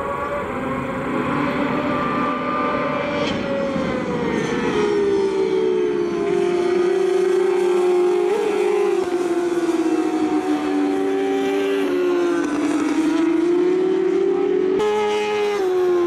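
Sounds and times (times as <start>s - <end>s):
racing motorcycle engines: 0.0s - 16.0s.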